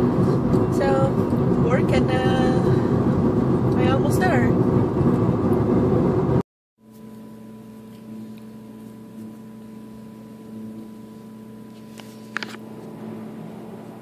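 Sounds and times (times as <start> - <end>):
vending machines humming: 0.0 - 6.4, 7.1 - 14.0.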